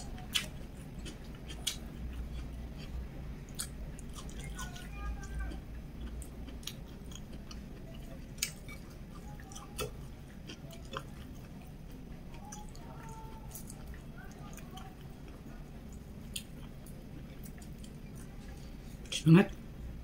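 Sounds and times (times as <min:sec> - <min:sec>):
person chewing food: 0:00.0 - 0:19.6.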